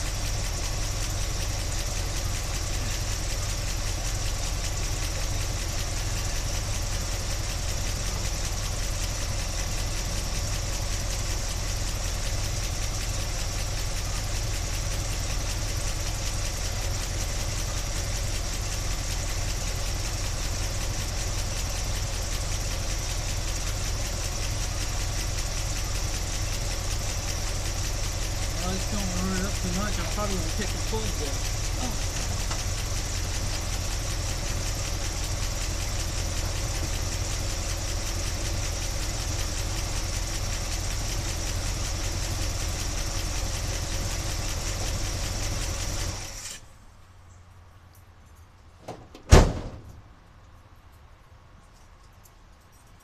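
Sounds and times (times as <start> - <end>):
car engine idling: 0.0 - 47.5.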